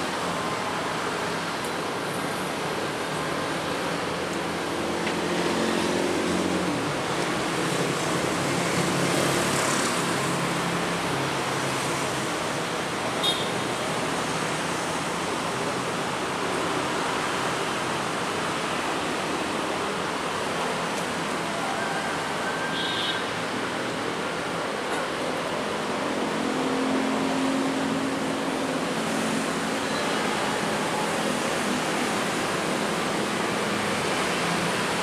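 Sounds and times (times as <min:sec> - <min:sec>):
freight train noise: 0:00.0 - 0:35.0.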